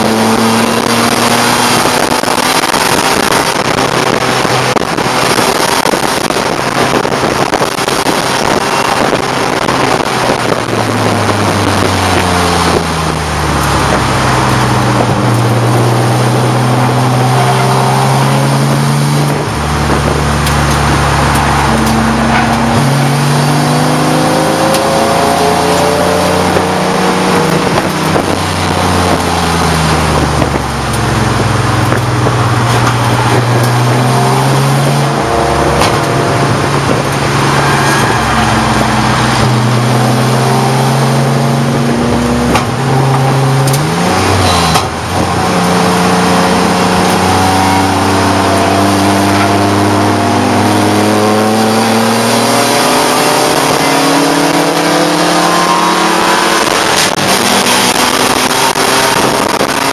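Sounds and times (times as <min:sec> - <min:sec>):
race car engine revving: 0:00.0 - 0:59.9
road and wind noise: 0:00.0 - 0:59.9.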